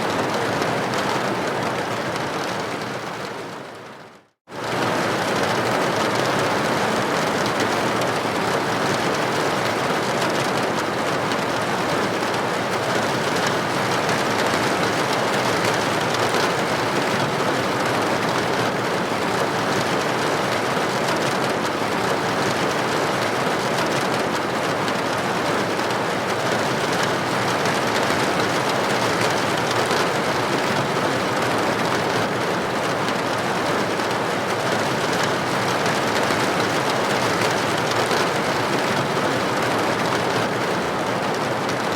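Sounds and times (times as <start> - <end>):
rain on window: 0.1 - 41.9.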